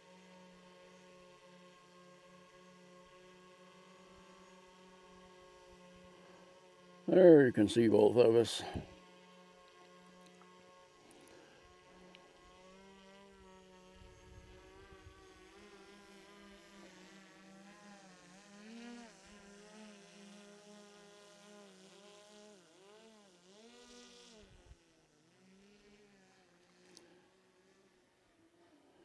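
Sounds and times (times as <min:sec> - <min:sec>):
drone propellers buzzing: 0:00.1 - 0:28.0.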